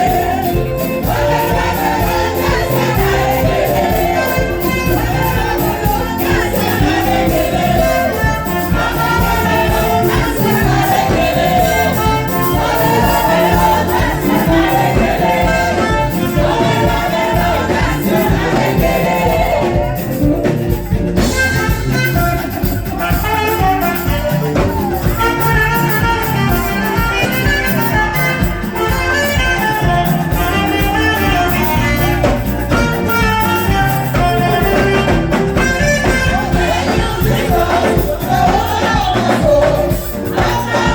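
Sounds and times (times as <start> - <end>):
gospel band with singing: 0.0 - 40.9
horn lead: 0.0 - 40.9.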